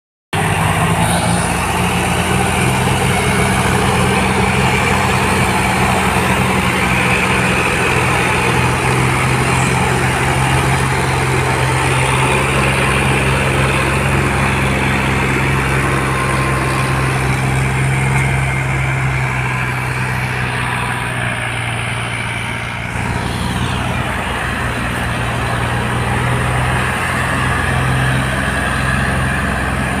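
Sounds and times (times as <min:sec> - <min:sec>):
tractor engines droning: 0:00.3 - 0:30.0.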